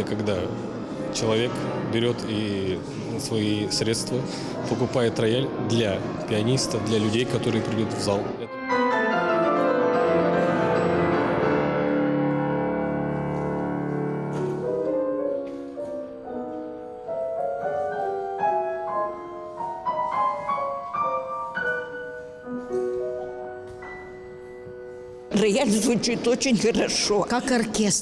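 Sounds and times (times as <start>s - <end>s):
grand piano playing: 0.0s - 27.7s.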